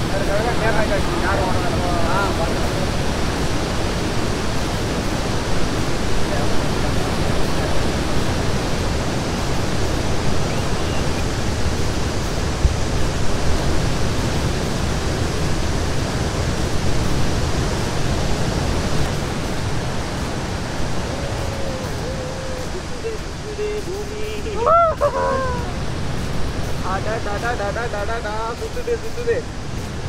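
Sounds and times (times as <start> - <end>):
rush of white water: 0.0 - 30.0.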